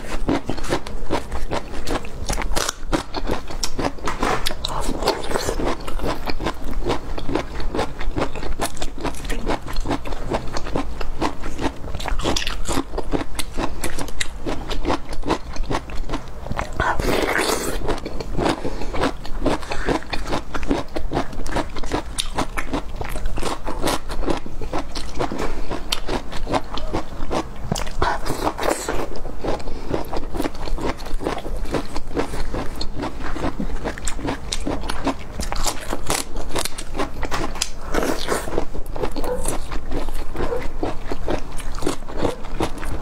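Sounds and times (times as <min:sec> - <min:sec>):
crunchy chewing: 0:00.0 - 0:43.0.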